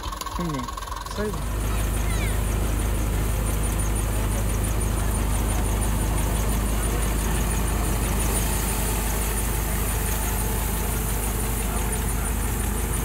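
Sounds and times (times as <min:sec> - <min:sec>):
fast regular ticking: 0:00.0 - 0:13.0
thresher engine droning: 0:00.0 - 0:13.0.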